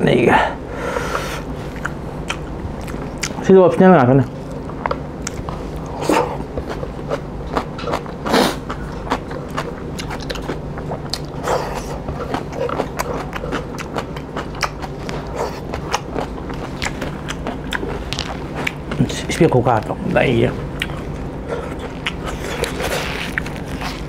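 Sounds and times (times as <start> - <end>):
faint low hum: 0.0 - 24.0
chewing and wet mouth smacks: 1.8 - 3.4, 4.5 - 19.5, 20.8 - 24.0.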